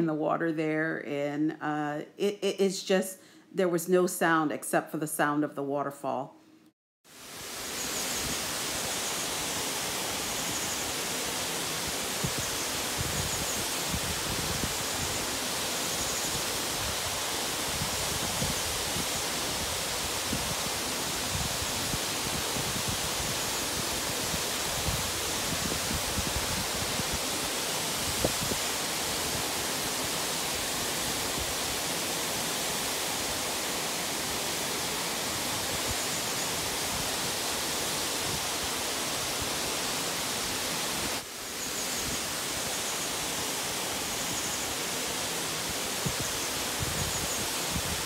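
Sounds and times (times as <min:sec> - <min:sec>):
waterfall rushing: 0:07.1 - 0:48.0.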